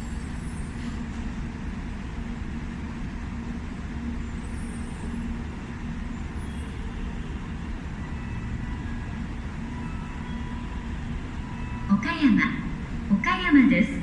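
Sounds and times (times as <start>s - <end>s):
train mechanical hum: 0.0s - 14.0s.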